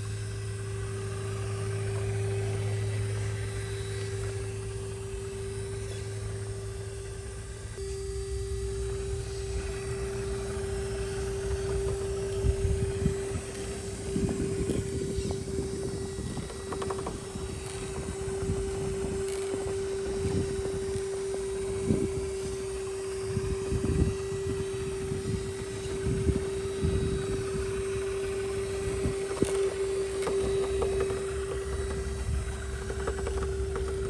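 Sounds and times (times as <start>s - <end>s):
electric motor whine: 0.0s - 34.0s.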